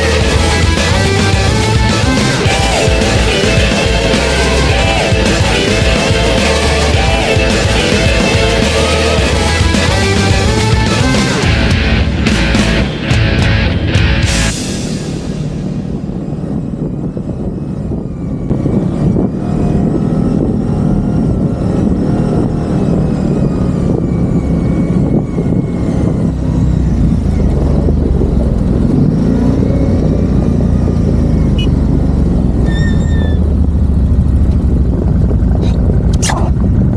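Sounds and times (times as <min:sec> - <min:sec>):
atv engine revving: 0:00.0 - 0:14.6, 0:18.5 - 0:36.9.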